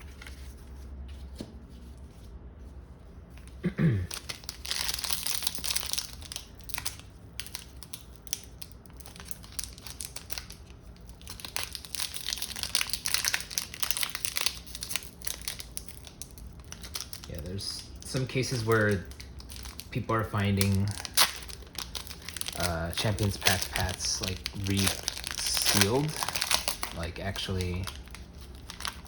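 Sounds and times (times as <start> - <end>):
foil wrapper crinkling and tearing: 4.1 - 29.0.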